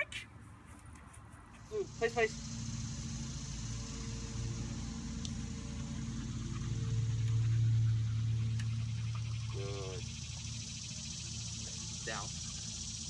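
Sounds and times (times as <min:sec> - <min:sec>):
motor humming: 0:01.8 - 0:13.0.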